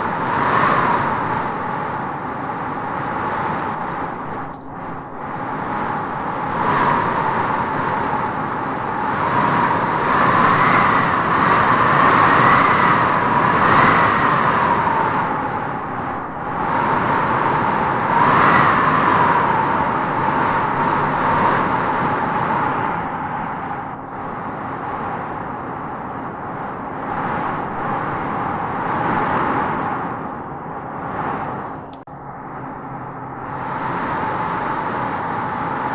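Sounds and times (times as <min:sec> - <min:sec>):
wind howling in gusts: 0:00.0 - 0:35.9.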